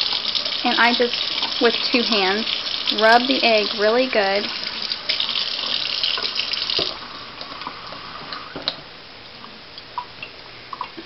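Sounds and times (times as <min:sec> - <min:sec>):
faint water drips: 0:00.0 - 0:11.0.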